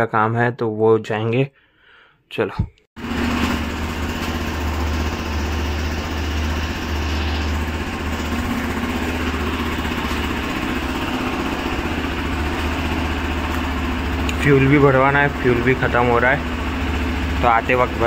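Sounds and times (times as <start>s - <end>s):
low engine-like drone: 3.0s - 18.0s.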